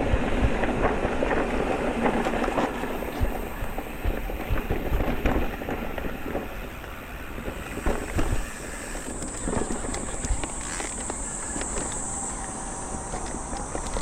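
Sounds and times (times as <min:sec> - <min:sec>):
tyre and wind rush: 0:00.0 - 0:14.0
bike knocks and rattles: 0:00.6 - 0:12.2.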